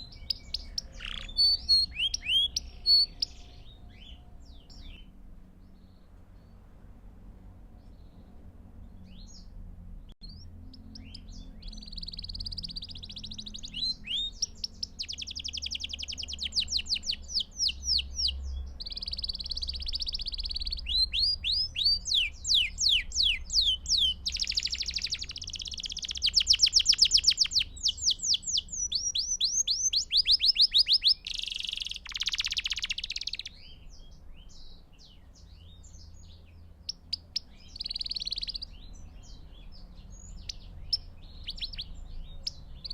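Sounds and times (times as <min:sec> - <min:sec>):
canary singing trills: 0:00.0 - 0:06.6, 0:10.2 - 0:42.9.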